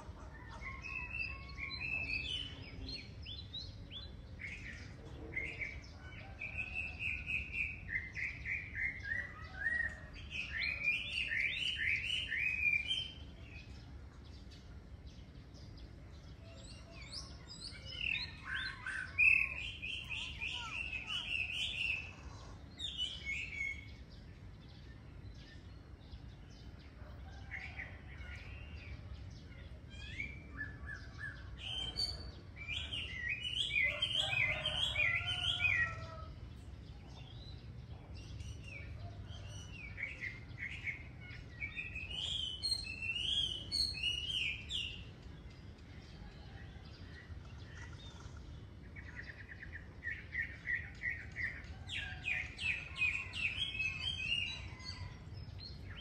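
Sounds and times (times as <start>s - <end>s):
songbirds warbling: 0.0s - 56.0s.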